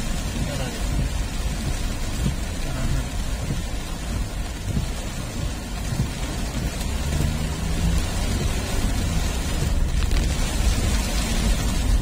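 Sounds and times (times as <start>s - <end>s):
heavy rain on car windshield: 0.0s - 12.0s
low car rumble: 0.0s - 12.0s.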